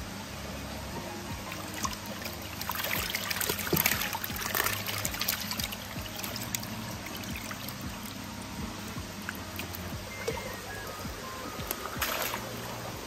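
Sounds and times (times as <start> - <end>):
water splashing and trickling: 0.2 - 13.0.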